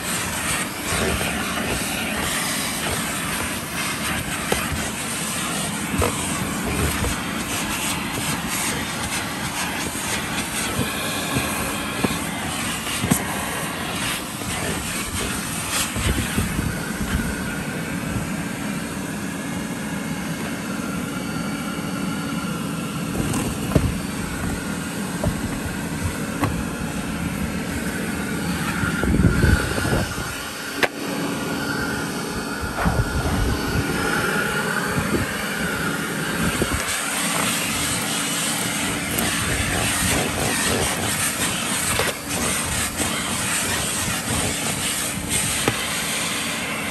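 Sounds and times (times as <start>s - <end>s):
brush scrubbing carpet: 0.0s - 18.2s, 23.0s - 29.0s, 32.4s - 46.9s
vacuum cleaner running: 0.0s - 46.9s.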